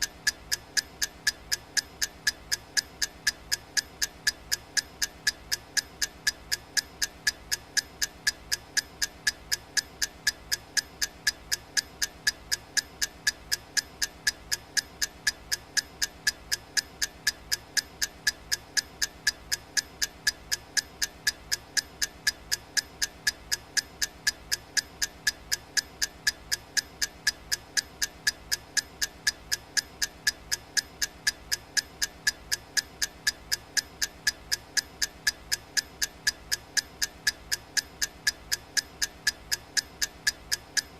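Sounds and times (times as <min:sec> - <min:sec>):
countdown timer ticking: 0:00.0 - 0:40.9.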